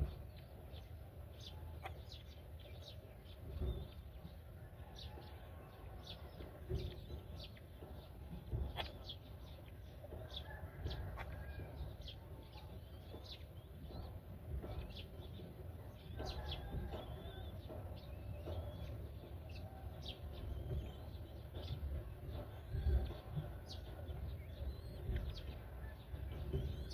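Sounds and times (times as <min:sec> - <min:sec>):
bird chicks calling: 0:00.0 - 0:26.9.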